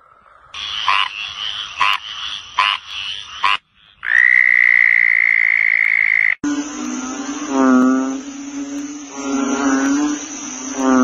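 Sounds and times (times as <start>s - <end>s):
frogs croaking: 0.0s - 11.0s
high frog trill: 0.6s - 11.0s.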